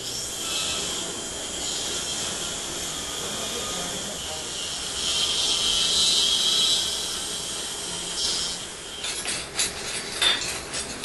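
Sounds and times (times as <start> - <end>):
dental drill whine: 0.0 - 9.2.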